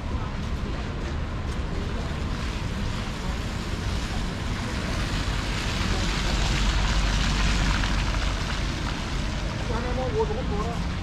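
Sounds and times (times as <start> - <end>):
traffic noise with low rumble: 0.0 - 11.0.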